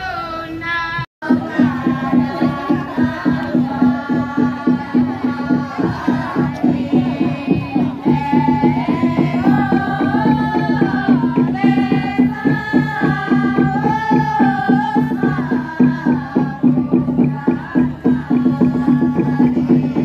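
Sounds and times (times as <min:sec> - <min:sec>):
group chanting melodic song: 0:00.0 - 0:20.0
fast rhythmic tapping: 0:01.2 - 0:20.0.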